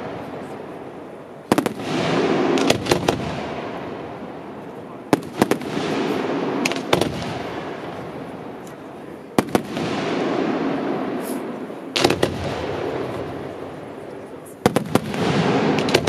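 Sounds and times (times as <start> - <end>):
continuous fireworks noise: 0.0 - 16.0.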